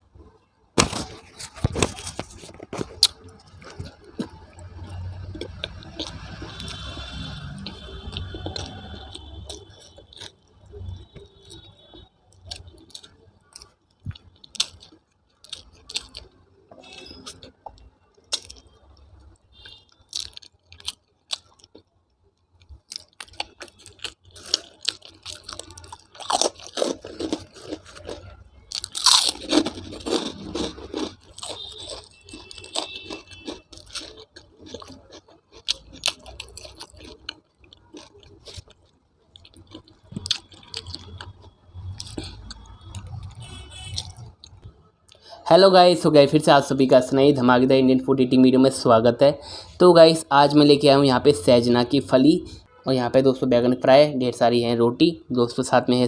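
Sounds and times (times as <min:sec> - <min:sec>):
crunching and chewing: 0:00.2 - 0:45.3.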